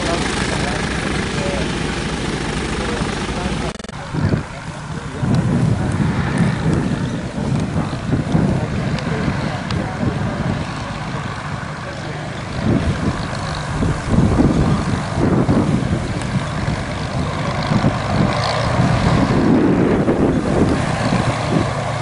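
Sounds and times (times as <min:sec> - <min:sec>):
piston aircraft engine running: 0:00.0 - 0:22.0
wind buffeting microphone: 0:00.0 - 0:22.0.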